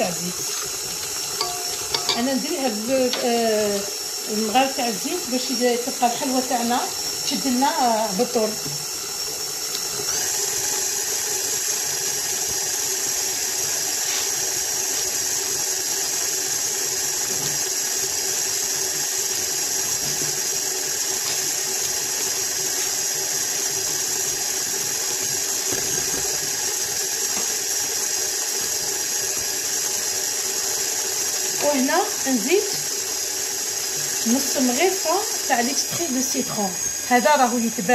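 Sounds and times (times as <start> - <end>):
stand mixer motor whine: 0.0 - 37.9.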